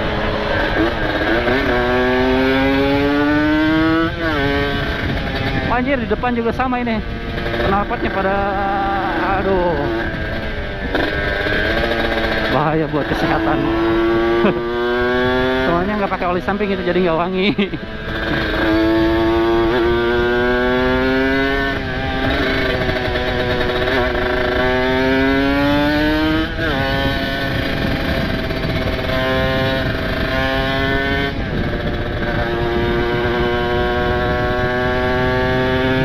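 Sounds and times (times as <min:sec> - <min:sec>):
motorcycle engine shifting gears: 0:00.0 - 0:36.0.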